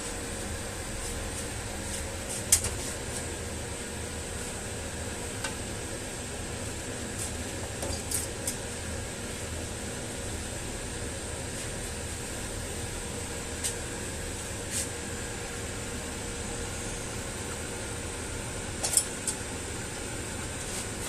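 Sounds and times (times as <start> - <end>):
welding machine humming and hissing: 0.0 - 21.0.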